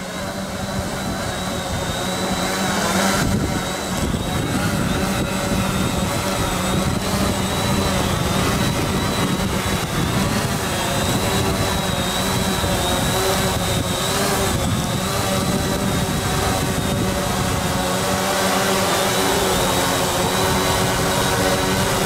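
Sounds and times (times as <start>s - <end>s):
drone propellers buzzing: 0.0s - 22.0s.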